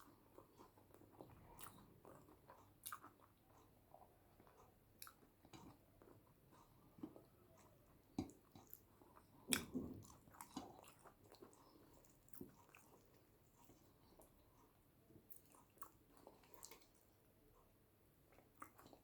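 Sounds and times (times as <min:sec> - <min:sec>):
wet chewing mouth sounds: 0:00.0 - 0:17.7, 0:18.3 - 0:19.0.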